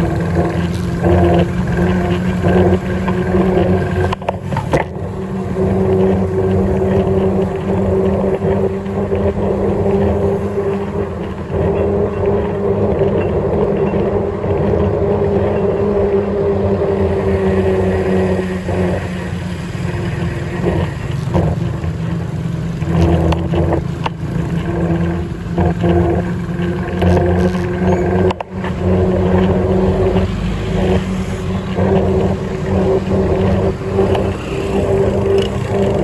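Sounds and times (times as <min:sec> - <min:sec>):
motorcycle engine running: 0:00.0 - 0:36.0
road and wind noise: 0:00.0 - 0:36.0.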